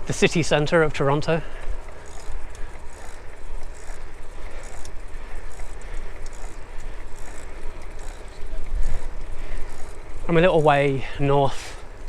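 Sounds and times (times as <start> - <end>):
road noise hiss: 0.0 - 12.0.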